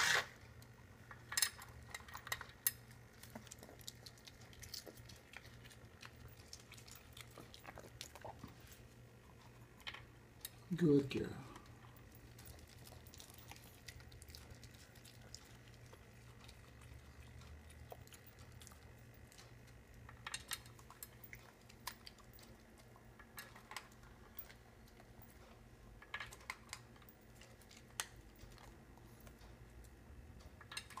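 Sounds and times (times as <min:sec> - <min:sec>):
dog crunching kibble: 0:00.6 - 0:29.4.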